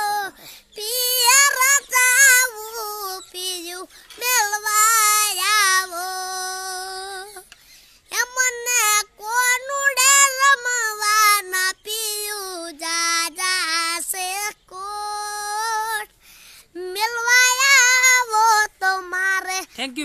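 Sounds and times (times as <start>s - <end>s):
child singing unaccompanied: 0.0s - 20.0s.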